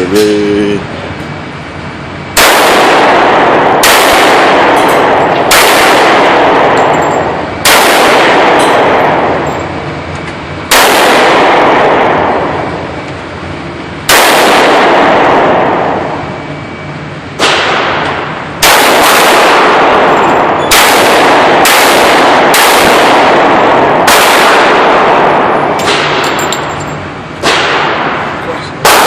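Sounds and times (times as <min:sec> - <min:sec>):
gunshots echoing: 0:02.4 - 0:09.6, 0:10.7 - 0:13.0, 0:14.1 - 0:16.3, 0:17.4 - 0:29.0.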